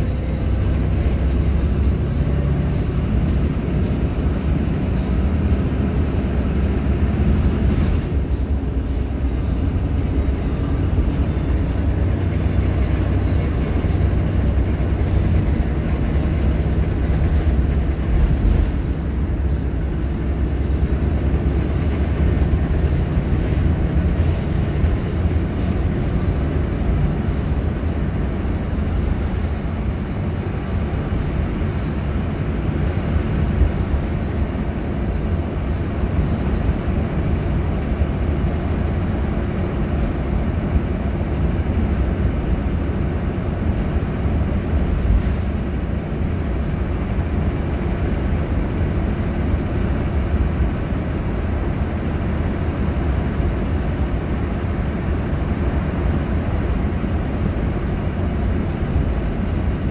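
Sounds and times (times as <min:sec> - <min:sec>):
bus diesel engine droning: 0:00.0 - 0:59.9
road noise: 0:00.0 - 0:59.9.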